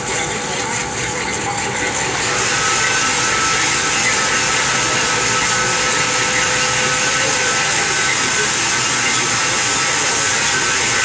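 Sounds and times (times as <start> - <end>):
lathe cutting metal: 0.0 - 11.0.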